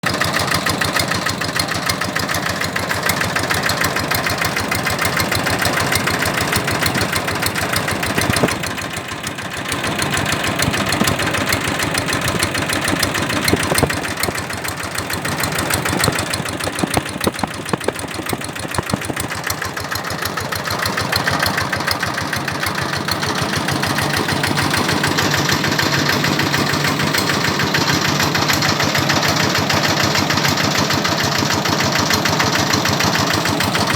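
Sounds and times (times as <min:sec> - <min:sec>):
diesel engine knocking: 0:00.0 - 0:33.9.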